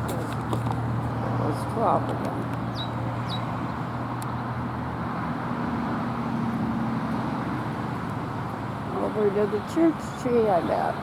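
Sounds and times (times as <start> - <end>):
road traffic rumble: 0.0 - 11.0
vehicle engine hum: 0.0 - 11.0.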